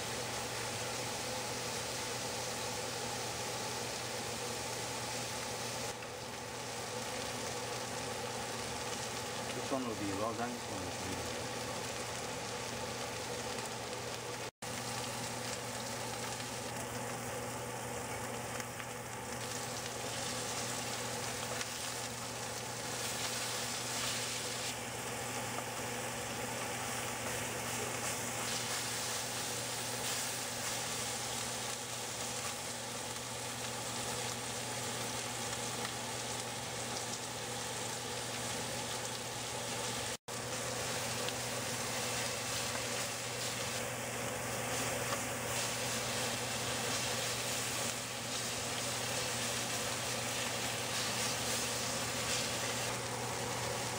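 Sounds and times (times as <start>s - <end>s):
steaks sizzling in a skillet: 0.0s - 53.9s.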